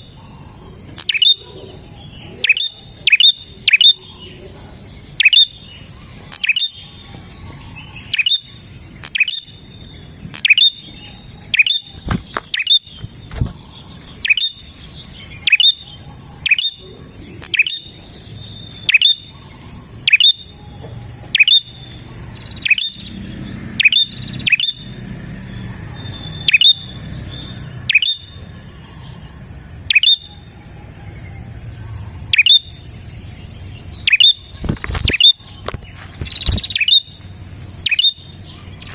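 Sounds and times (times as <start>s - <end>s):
bird sharp chip calls: 0.0s - 4.4s, 5.2s - 20.5s, 21.3s - 23.2s, 23.8s - 24.9s, 25.5s - 29.0s, 29.9s - 30.3s, 32.2s - 32.8s, 33.9s - 37.2s, 37.8s - 38.9s.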